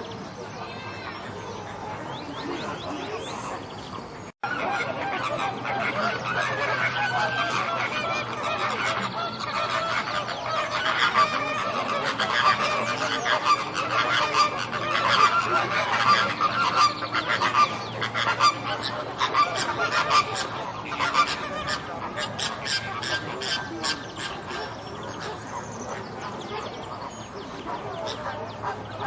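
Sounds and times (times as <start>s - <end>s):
flamingos honking: 0.6s - 29.0s.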